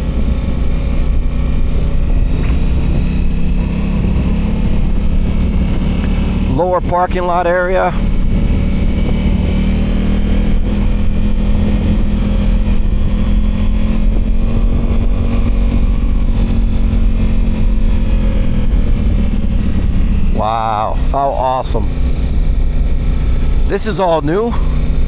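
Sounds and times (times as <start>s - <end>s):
wind noise: 0.0s - 21.1s
motorcycle engine running: 0.0s - 25.0s.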